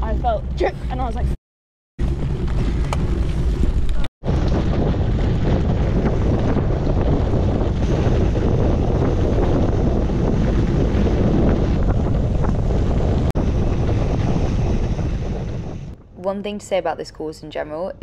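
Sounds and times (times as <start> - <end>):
wind buffeting microphone: 2.0 - 18.0.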